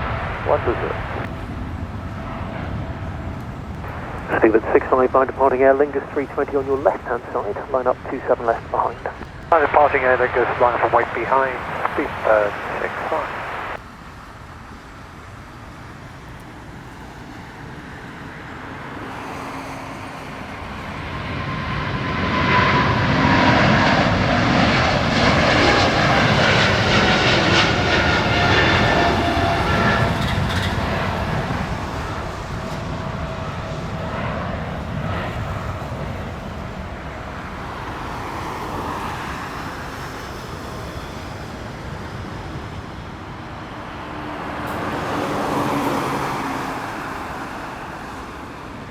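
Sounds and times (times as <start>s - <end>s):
jet airliner taking off: 0.0s - 48.9s.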